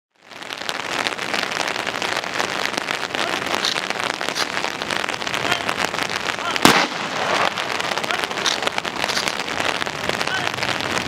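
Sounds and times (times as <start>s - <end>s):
steady rain patter: 0.1s - 11.0s.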